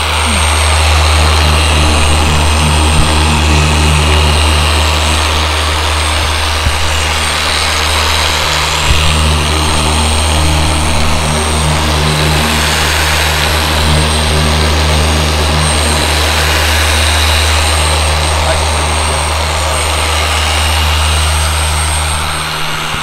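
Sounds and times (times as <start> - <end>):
orbital polisher motor drone: 0.0 - 23.0.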